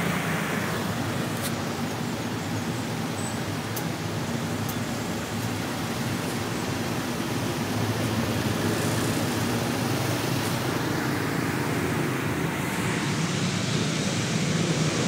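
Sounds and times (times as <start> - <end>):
road and wind noise: 0.0 - 15.0
vehicle engine drone: 0.0 - 15.0.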